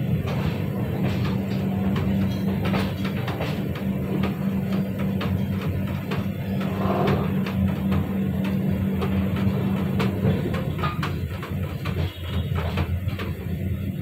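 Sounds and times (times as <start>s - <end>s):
train low rumble: 0.0s - 14.0s
train wheels clacking: 0.0s - 14.0s.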